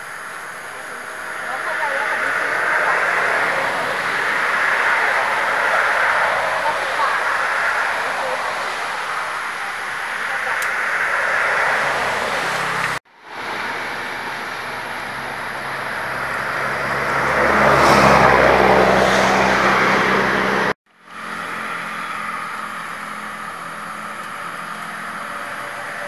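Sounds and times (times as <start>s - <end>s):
steady street hiss: 0.0s - 26.0s
vehicle engine passing: 0.0s - 26.0s.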